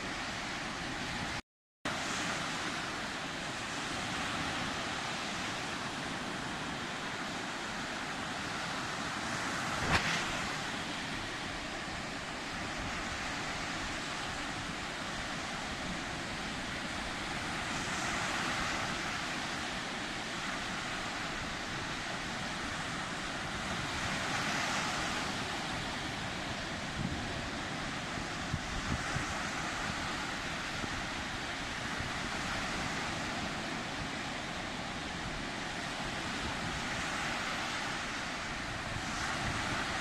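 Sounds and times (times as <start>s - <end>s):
waves rushing: 0.0s - 40.0s.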